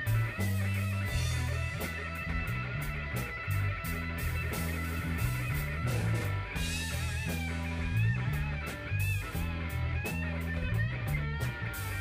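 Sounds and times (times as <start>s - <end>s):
lead guitar bending notes: 0.0s - 12.0s
live rock band playing: 0.0s - 12.0s.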